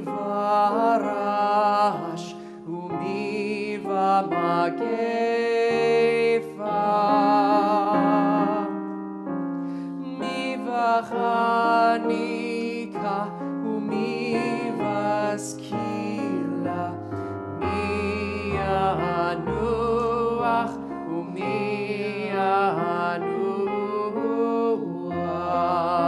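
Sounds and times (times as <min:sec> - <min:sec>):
piano chords: 0:00.0 - 0:26.0
slow sustained melody with vibrato: 0:00.0 - 0:26.0.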